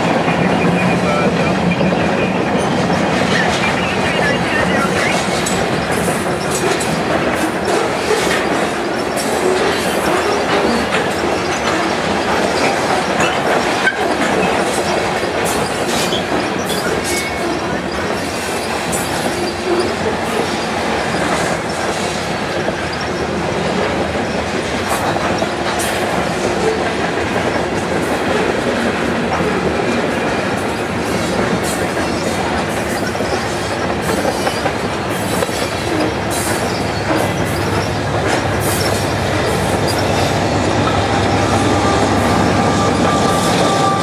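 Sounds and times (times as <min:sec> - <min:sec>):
freight train wheels on rails: 0:00.0 - 0:44.0
wheels clacking over rail joints: 0:05.1 - 0:44.0.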